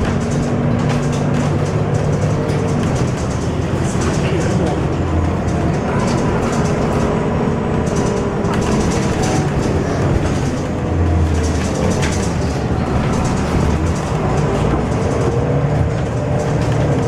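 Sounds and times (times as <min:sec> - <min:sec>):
bus engine rumble: 0:00.0 - 0:17.0
interior fittings rattling: 0:00.0 - 0:17.0
road noise: 0:00.0 - 0:17.0.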